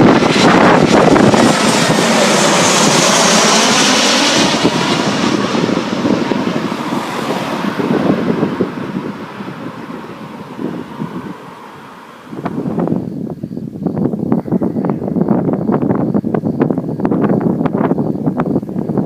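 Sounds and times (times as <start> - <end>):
jet airliner passing close: 0.0 - 19.0.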